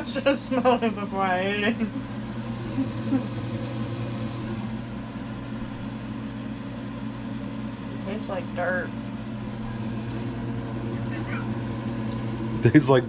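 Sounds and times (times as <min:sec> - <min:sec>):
range hood fan humming: 0:00.0 - 0:13.0.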